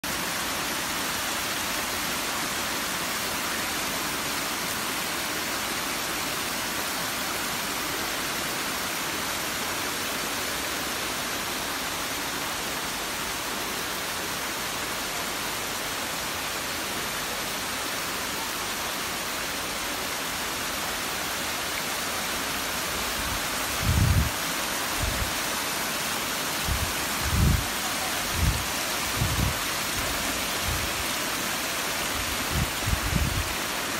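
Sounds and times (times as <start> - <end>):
waterfall splashing: 0.0 - 33.9.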